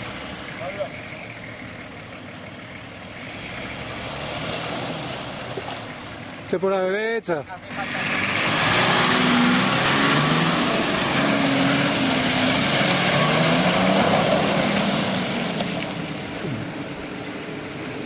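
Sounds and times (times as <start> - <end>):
car engine pulling: 0.0 - 18.0.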